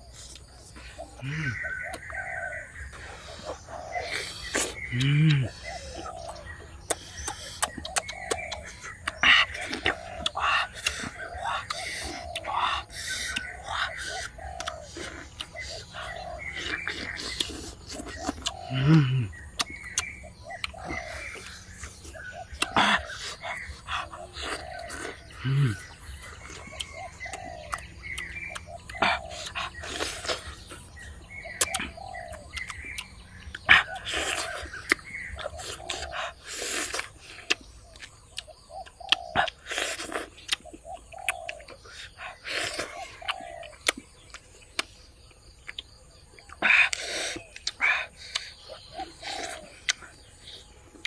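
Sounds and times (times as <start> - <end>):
low cooing calls: 0.0 - 45.0, 45.7 - 51.0
chewing and crunching: 0.0 - 51.0
chickens clucking: 0.0 - 51.0
small birds chirping: 0.0 - 51.0.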